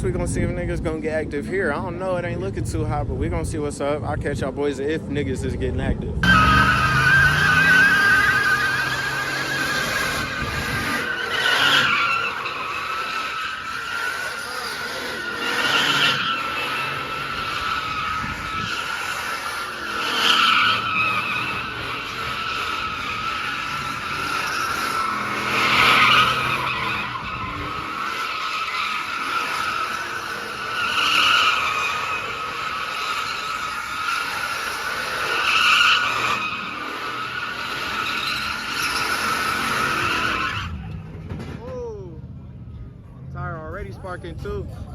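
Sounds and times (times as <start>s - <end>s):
car tyres screeching: 4.6s - 44.9s.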